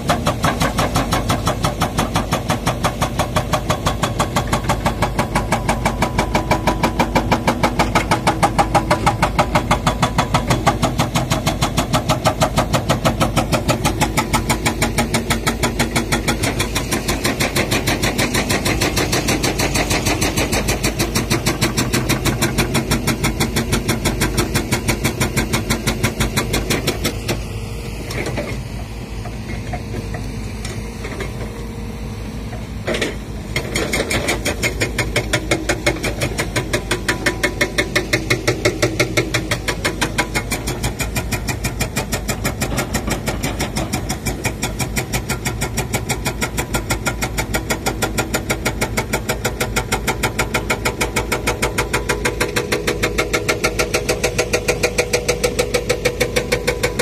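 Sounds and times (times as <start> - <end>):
hydraulic rock breaker hammering: 0.0 - 27.5, 32.6 - 57.0
diesel excavator engine: 0.0 - 57.0.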